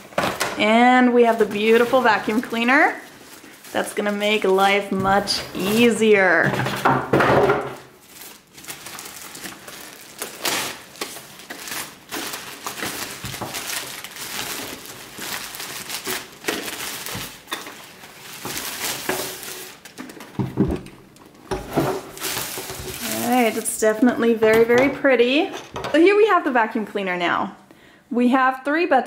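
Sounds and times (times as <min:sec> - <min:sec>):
plastic bag crinkling: 0:00.0 - 0:06.4, 0:07.8 - 0:24.8.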